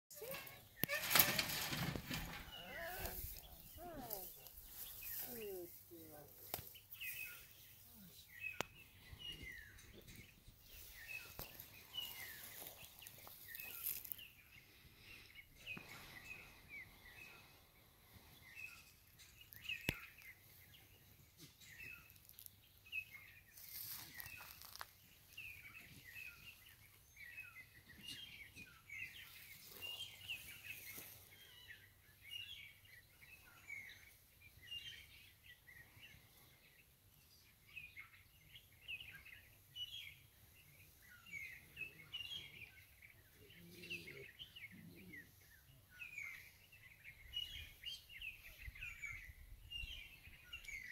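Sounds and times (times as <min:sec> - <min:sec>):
small birds chirping: 0:00.1 - 0:50.9.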